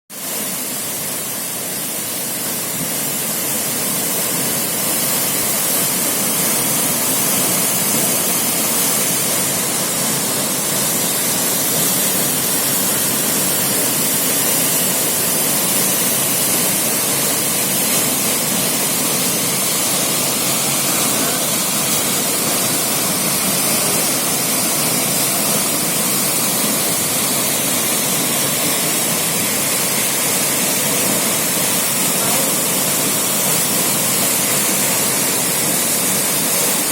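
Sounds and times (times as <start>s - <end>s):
waterfall rushing: 0.2s - 36.9s.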